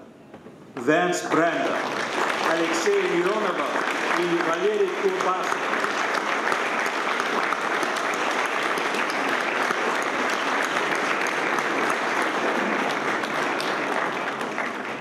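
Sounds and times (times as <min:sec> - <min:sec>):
roomful of people applauding: 0:00.8 - 0:15.0.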